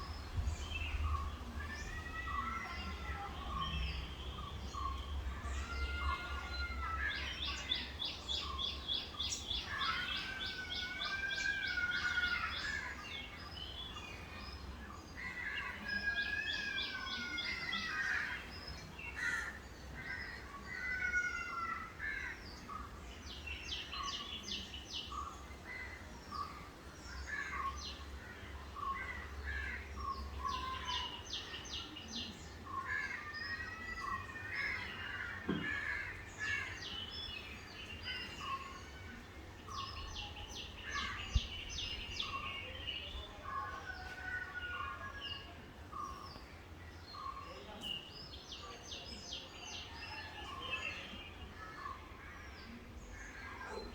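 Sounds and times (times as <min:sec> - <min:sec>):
birds rattling trills: 0:00.0 - 0:53.9.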